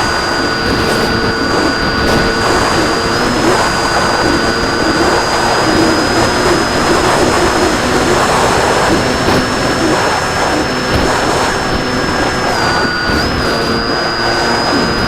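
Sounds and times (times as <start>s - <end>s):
model plane motor whining: 0.0s - 15.0s
wind noise: 0.0s - 15.0s.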